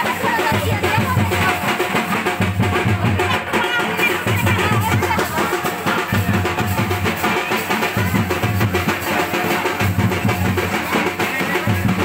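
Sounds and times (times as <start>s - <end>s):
bass drum: 0.0s - 12.0s
music with steady drum beat: 0.0s - 12.0s.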